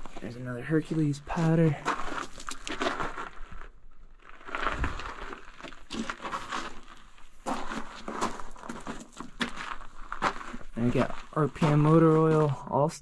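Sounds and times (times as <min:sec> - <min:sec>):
footsteps on gravel: 0:00.0 - 0:12.9.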